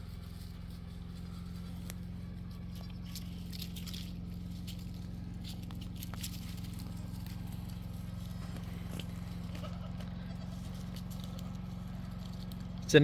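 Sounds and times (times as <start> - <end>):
goat tearing grass: 0.0 - 13.0
low hum: 0.0 - 13.0.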